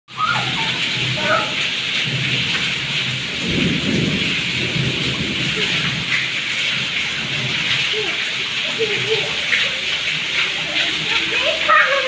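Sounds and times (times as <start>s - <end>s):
heavy rain on hard surfaces: 0.1s - 12.0s.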